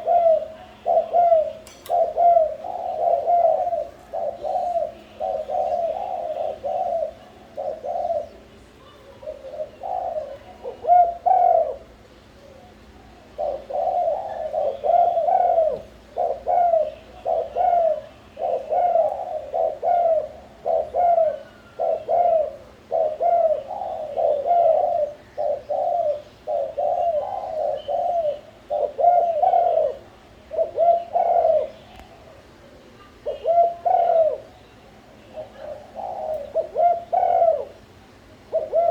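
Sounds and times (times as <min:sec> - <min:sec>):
doves cooing: 0:00.0 - 0:38.9
small birds chirping: 0:00.0 - 0:38.9.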